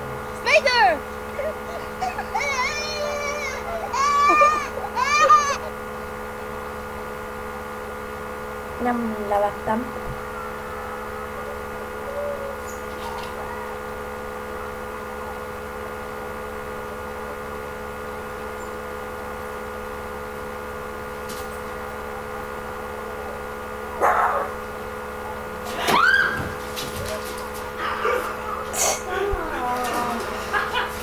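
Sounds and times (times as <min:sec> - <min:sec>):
electrical hum and buzz: 0:00.0 - 0:31.0.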